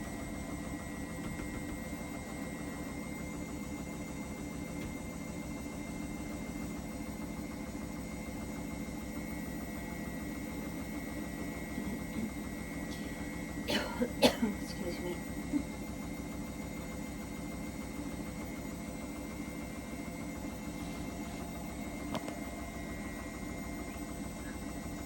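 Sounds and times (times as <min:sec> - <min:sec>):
thin steady whine: 0:00.0 - 0:25.0
washing machine motor hum: 0:00.0 - 0:25.0.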